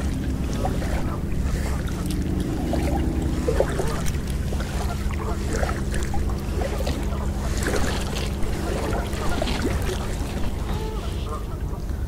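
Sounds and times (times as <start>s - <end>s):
paddle splashing water: 0.0s - 12.0s
wind rumble on microphone: 0.0s - 12.0s.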